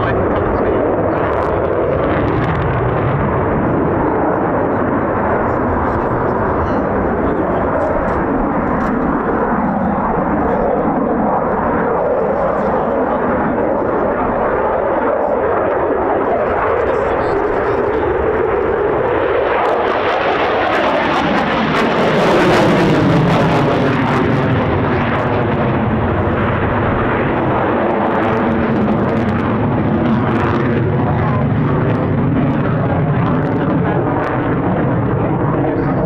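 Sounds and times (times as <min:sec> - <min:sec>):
jet engine flyby: 0:00.0 - 0:36.0.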